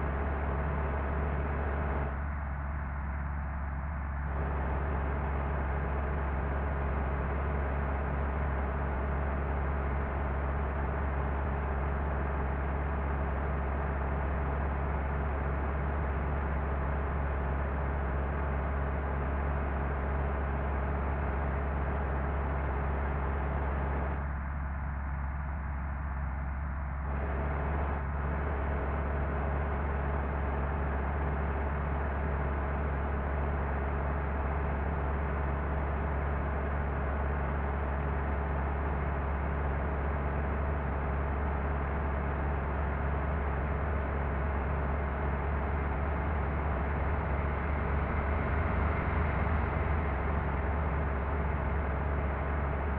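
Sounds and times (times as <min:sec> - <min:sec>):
bus engine and road noise: 0:00.0 - 0:52.9.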